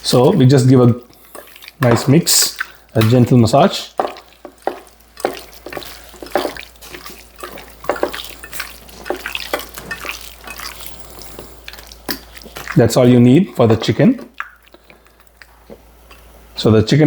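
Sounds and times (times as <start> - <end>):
hands mixing raw chicken: 0.0 - 16.7.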